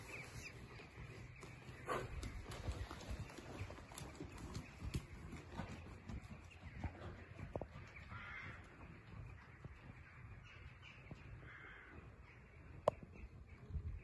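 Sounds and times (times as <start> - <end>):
horse hoofbeats on sand: 0.0 - 13.7.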